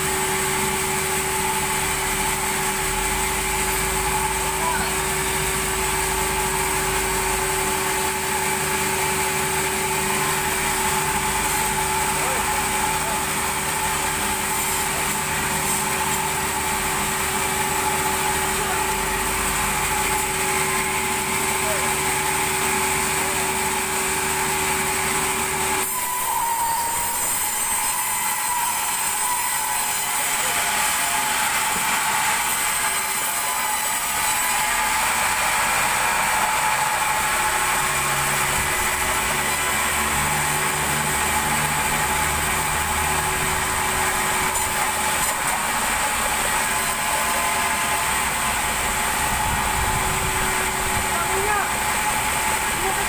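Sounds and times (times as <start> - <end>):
band saw cutting log: 0.0 - 53.0.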